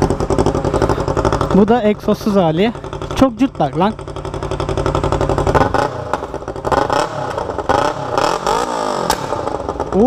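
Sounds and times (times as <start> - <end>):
raspy motorcycle engine revving: 0.0 - 10.0.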